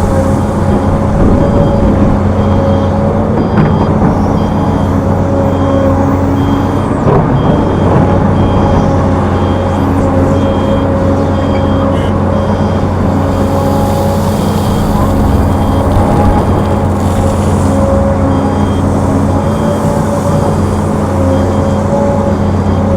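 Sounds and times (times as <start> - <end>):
diesel machinery droning: 0.0 - 22.9
backup alarm beeps: 0.4 - 13.8, 14.4 - 22.9.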